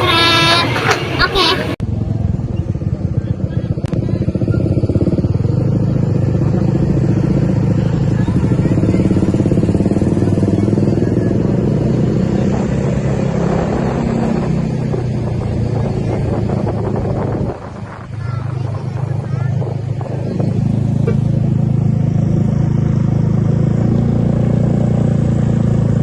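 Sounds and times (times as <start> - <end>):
vehicle engine running loudly: 0.0 - 26.0.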